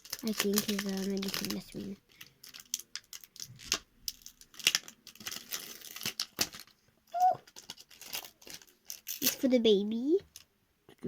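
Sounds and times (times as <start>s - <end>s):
crinkly plastic packaging rustling: 0.0s - 10.5s.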